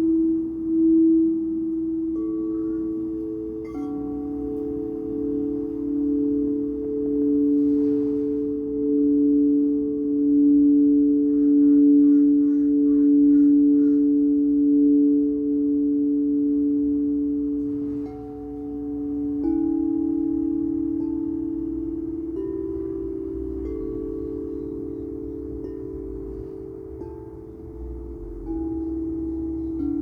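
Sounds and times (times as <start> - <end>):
singing bowl struck: 0.0 - 30.0
singing bowls humming: 0.0 - 30.0.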